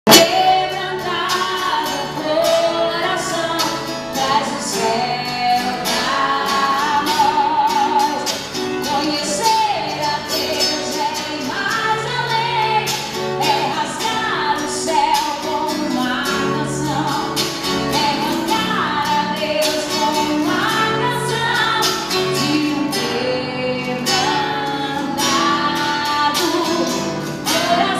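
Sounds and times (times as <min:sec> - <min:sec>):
gospel band playing: 0:00.1 - 0:27.9
woman singing: 0:00.1 - 0:27.9.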